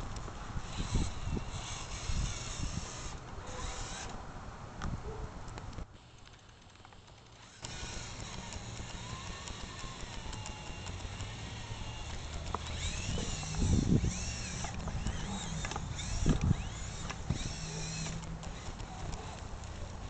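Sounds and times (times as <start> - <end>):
electric motor and gears whining: 0.0 - 4.3, 6.0 - 20.0.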